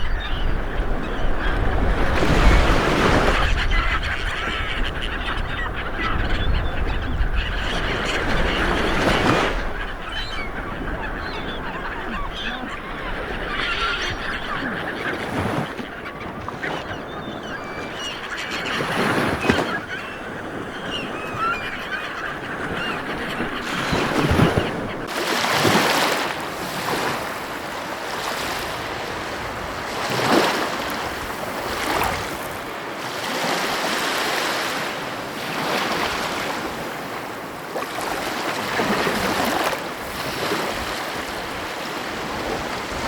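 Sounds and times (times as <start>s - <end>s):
birds calling: 0.0s - 43.0s.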